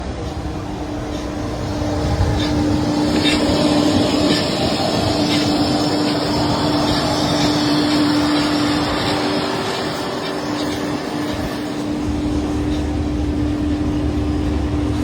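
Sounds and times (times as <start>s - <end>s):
jet cabin noise rush and hum: 0.0s - 15.0s.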